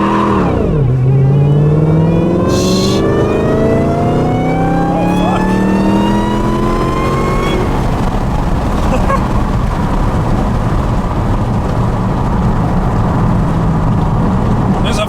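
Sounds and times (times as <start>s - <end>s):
car engine accelerating: 0.0s - 15.0s
road noise: 0.0s - 15.0s.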